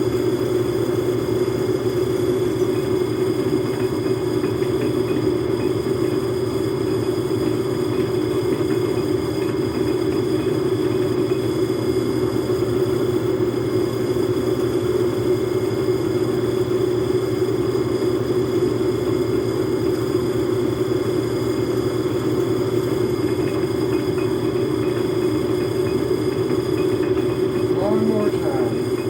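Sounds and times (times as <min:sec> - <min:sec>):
metal lathe droning: 0:00.0 - 0:29.0.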